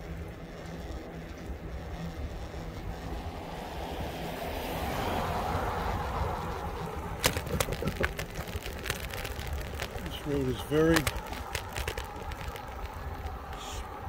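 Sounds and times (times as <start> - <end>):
e-bike road noise: 0.0 - 14.0
wind rumble on microphone: 0.0 - 14.0.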